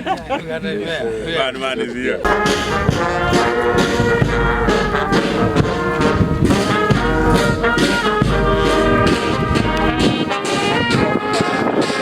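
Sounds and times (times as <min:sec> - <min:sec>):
brass music with steady beat: 0:02.2 - 0:12.0.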